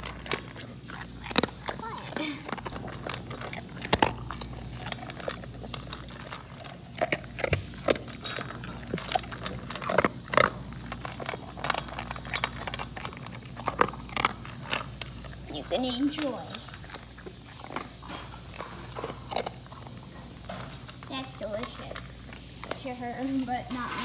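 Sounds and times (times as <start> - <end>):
dog crunching kibble: 0.0 - 24.0
kibble clicking on metal bowl: 0.0 - 24.0.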